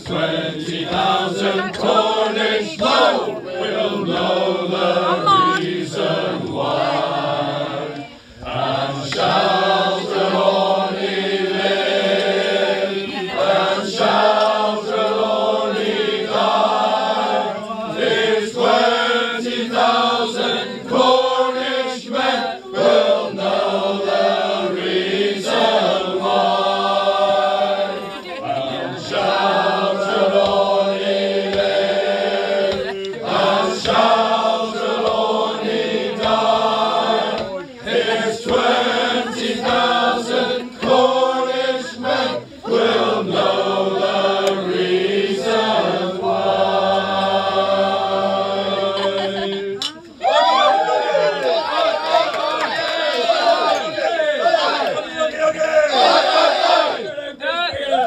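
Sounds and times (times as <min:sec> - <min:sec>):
male choir singing in harmony: 0:00.0 - 0:50.2, 0:51.6 - 0:57.8.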